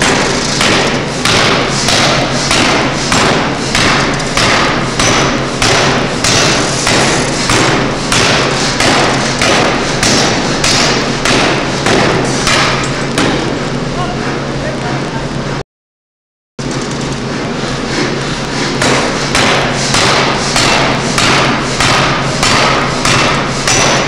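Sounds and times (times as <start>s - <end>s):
forging hammer striking metal: 0.0s - 13.6s, 18.0s - 24.0s.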